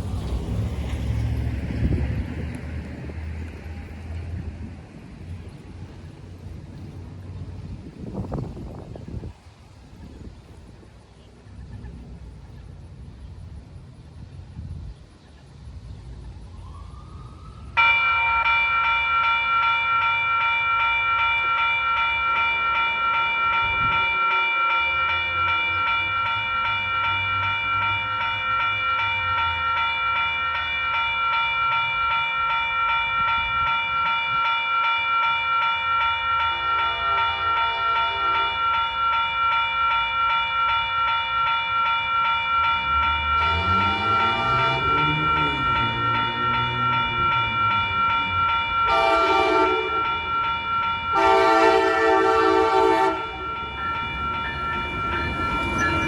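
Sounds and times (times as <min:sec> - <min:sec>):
railroad crossing bell ringing: 0:00.0 - 0:04.5, 0:05.1 - 0:09.3, 0:17.7 - 0:56.0
train rumbling: 0:00.0 - 0:56.0.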